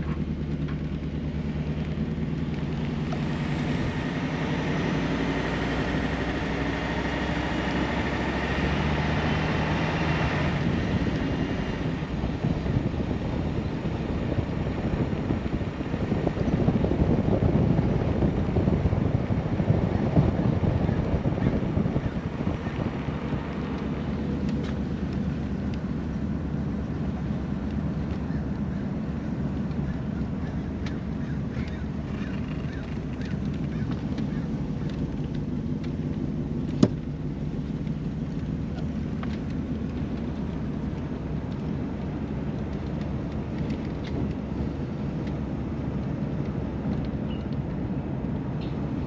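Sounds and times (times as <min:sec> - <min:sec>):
car engine driving: 0:00.0 - 0:49.0
road noise: 0:00.0 - 0:49.0
rushing wind: 0:00.0 - 0:49.0.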